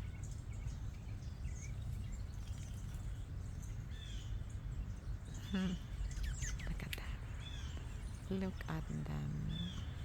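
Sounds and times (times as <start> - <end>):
low background rumble: 0.0 - 10.0
small birds chirping: 0.0 - 10.0.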